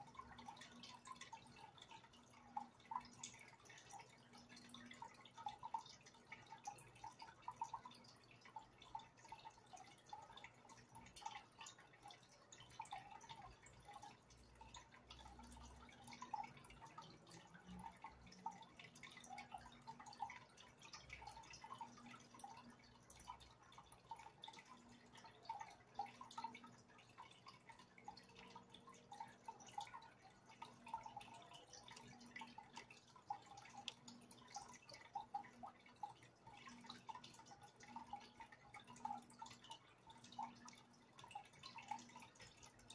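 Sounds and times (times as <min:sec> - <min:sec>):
aquarium water dripping: 0:00.0 - 0:42.9
low steady hum: 0:00.0 - 0:42.9.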